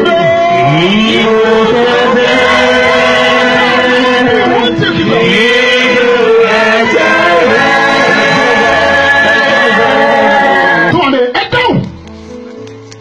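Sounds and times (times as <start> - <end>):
loud singing: 0.0 - 11.0
instrumental backing: 0.0 - 13.0.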